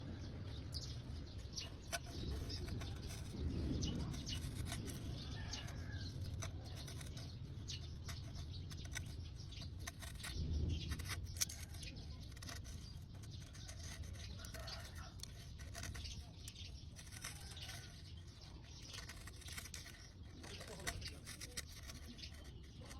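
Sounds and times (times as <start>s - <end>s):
gasket scraping: 0.0s - 22.9s.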